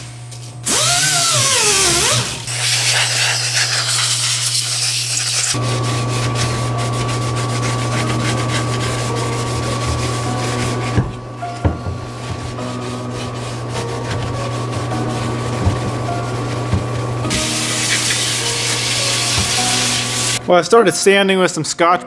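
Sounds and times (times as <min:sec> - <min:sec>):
die grinder whining: 0:00.6 - 0:11.4, 0:12.1 - 0:20.4
scrubbing pad on metal: 0:02.5 - 0:20.4.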